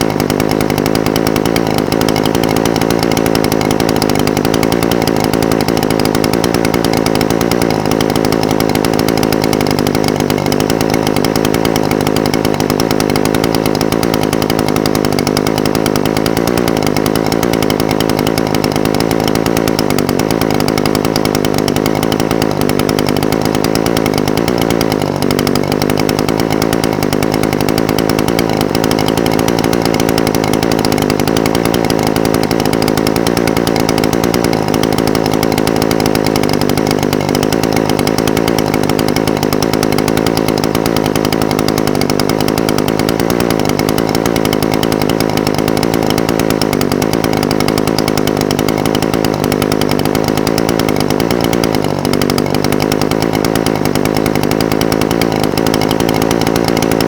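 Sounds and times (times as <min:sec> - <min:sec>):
brush cutter engine idling: 0:00.0 - 0:57.0.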